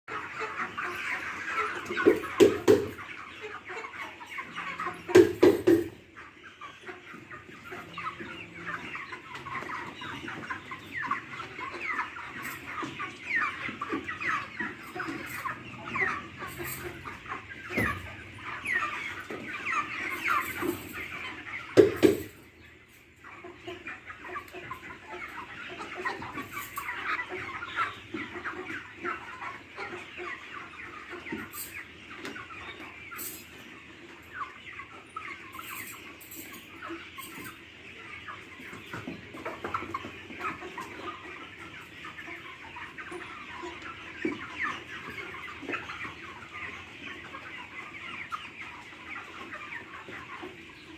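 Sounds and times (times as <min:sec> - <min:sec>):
hens clucking: 0:00.1 - 0:50.9.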